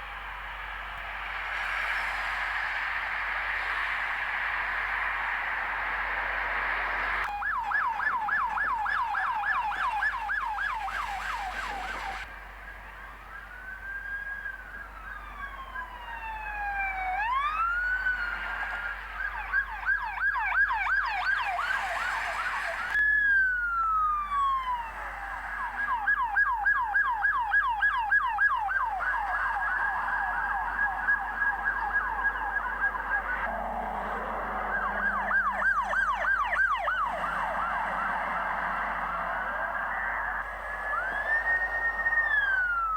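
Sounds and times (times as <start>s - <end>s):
police siren yelp and wail: 0.0s - 42.9s
second siren: 0.0s - 42.9s.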